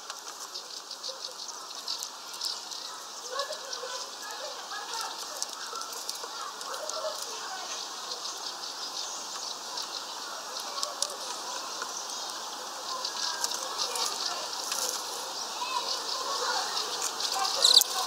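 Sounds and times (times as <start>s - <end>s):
outdoor background: 0.0s - 18.0s
songbirds chirping and twittering: 0.0s - 18.0s.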